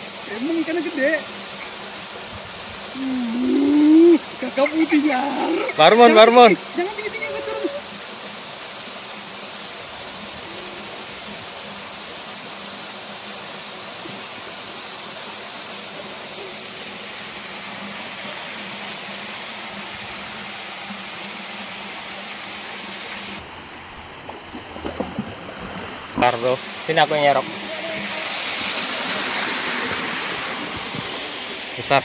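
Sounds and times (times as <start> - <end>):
steady hiss: 0.0 - 23.4, 26.2 - 32.0.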